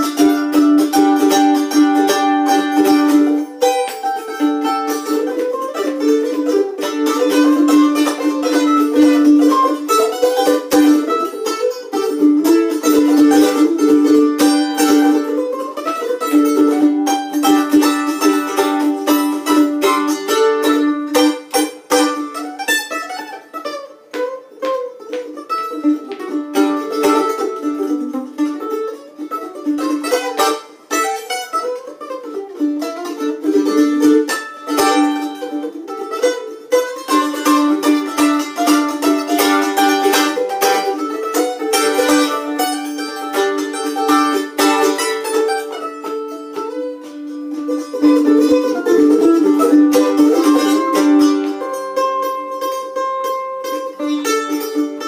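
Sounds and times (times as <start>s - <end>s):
mandolin picked notes: 0.0s - 55.0s.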